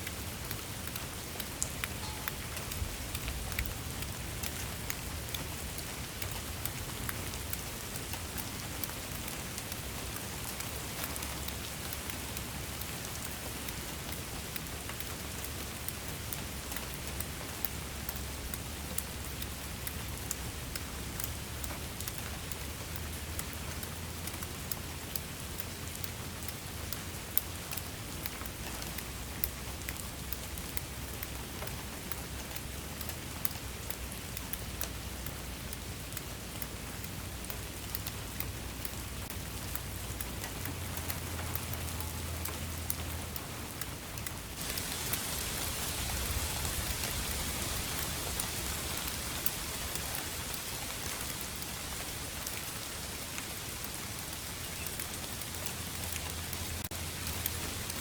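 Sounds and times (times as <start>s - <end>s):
rain drops ticking on a surface: 0.0s - 58.0s
rain hiss: 0.0s - 58.0s.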